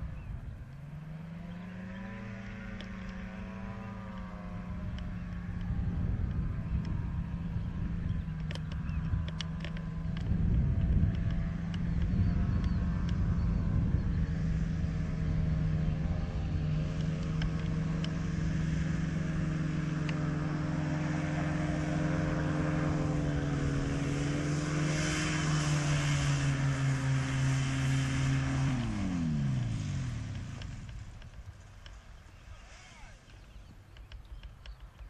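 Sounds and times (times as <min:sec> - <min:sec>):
propeller engine running: 0:00.0 - 0:35.0.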